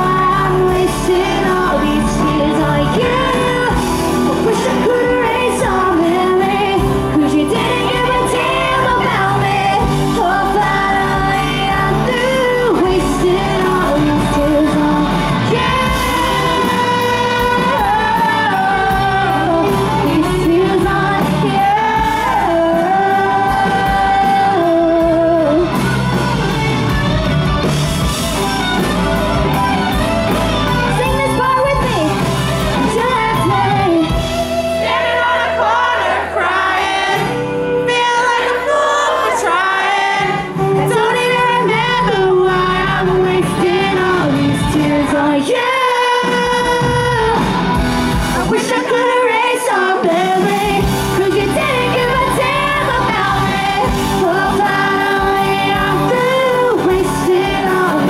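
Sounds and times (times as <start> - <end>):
woman singing lead vocal: 0.0 - 26.9, 30.7 - 58.0
band with electric guitar: 0.0 - 58.0.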